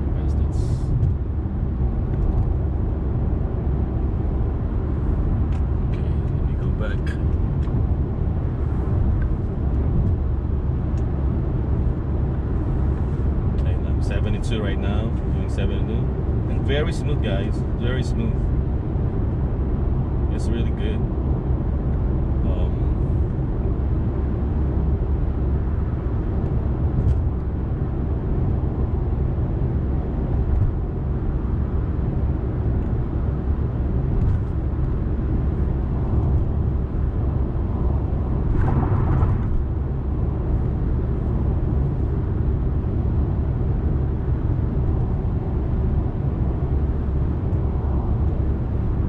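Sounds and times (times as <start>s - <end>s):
road and tyre rumble in car: 0.0s - 49.0s.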